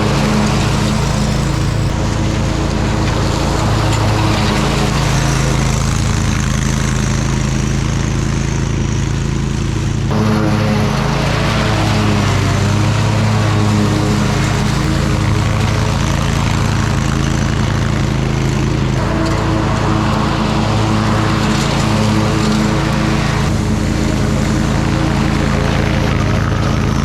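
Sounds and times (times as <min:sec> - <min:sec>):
riding mower engine running: 0:00.0 - 0:27.0.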